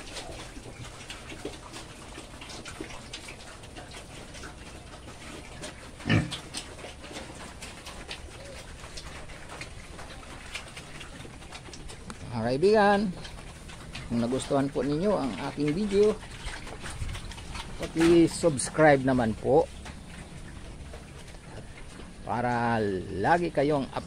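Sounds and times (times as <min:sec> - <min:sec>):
pigs chewing and smacking: 0:00.0 - 0:24.0.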